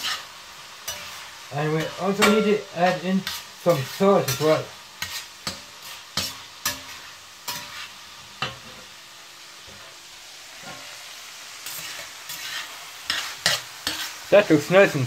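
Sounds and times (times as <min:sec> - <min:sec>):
spatula scraping a pan: 0:00.0 - 0:09.0, 0:09.6 - 0:15.0
meat sizzling in a frying pan: 0:00.0 - 0:15.0.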